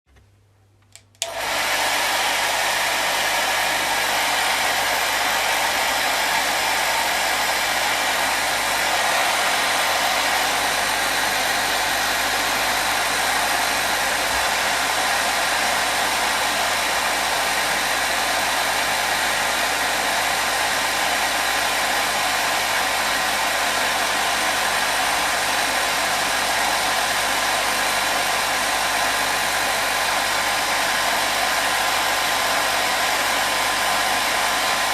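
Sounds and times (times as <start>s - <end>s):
hair dryer blowing: 0.9s - 34.9s.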